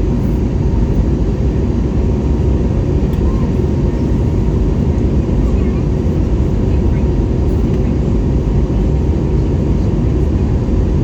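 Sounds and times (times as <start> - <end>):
airliner engine and airflow roar: 0.0 - 11.0.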